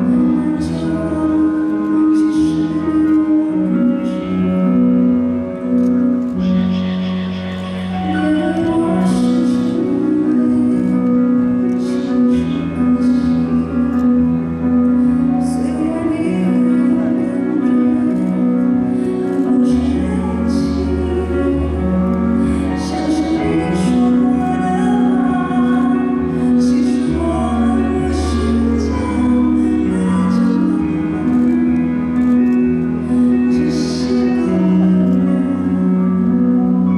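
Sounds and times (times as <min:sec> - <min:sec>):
woman singing into microphone: 0:00.0 - 0:05.0, 0:07.9 - 0:14.4, 0:15.2 - 0:32.0, 0:33.2 - 0:36.9
instrumental backing music: 0:00.0 - 0:36.9.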